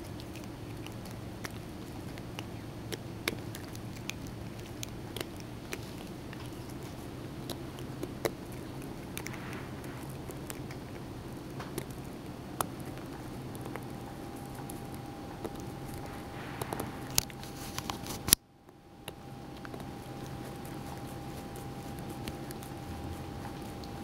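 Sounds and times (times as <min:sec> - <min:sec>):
cat sucking paw: 0:00.0 - 0:24.0
steady low hum: 0:00.0 - 0:24.0.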